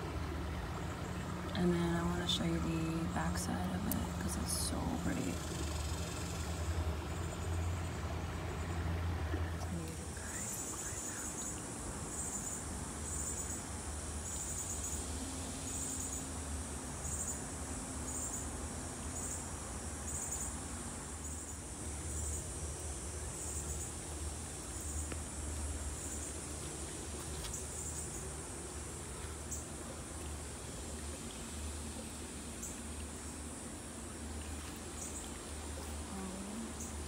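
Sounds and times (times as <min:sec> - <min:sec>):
insect chirping: 0:00.4 - 0:37.0.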